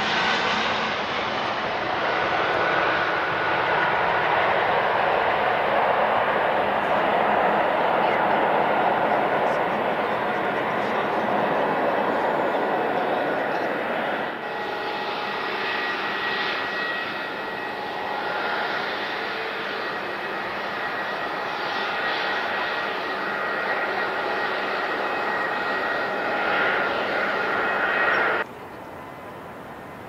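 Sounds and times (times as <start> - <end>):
jet engines at takeoff: 0.0 - 30.0.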